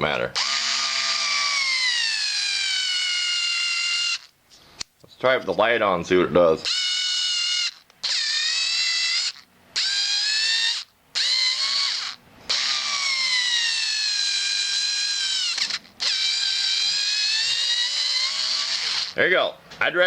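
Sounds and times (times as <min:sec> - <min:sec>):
cordless screwdriver motor whining: 0:00.4 - 0:04.3, 0:06.7 - 0:19.2.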